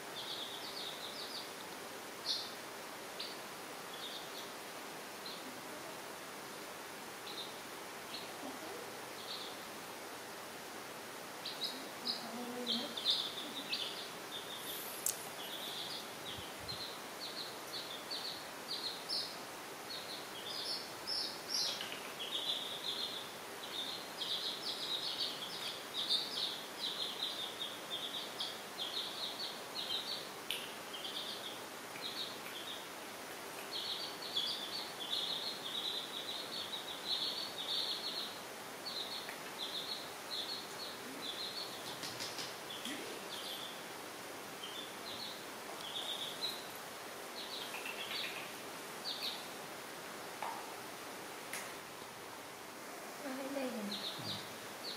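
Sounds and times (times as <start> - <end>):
baby chicks peeping: 0.0 - 4.6, 5.2 - 6.0, 7.2 - 9.7, 11.4 - 49.6, 53.2 - 54.9
faint steady hiss: 0.0 - 54.9.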